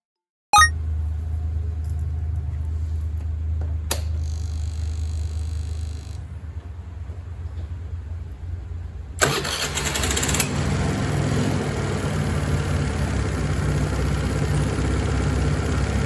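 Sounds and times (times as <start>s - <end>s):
small engine droning: 1.2s - 16.0s.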